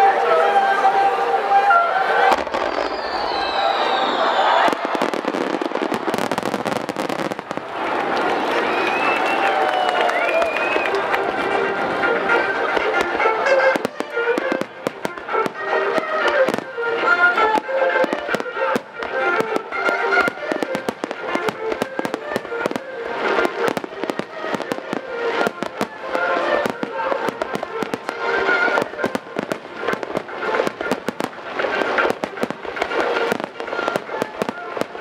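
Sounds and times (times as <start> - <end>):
fireworks bursting: 0.0 - 35.0
music playing: 0.0 - 35.0.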